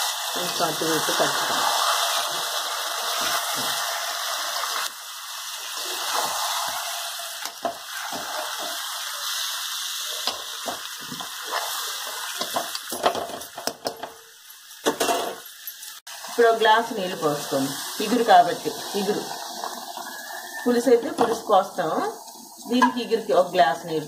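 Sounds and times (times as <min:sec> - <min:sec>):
frying hiss: 0:00.0 - 0:24.0.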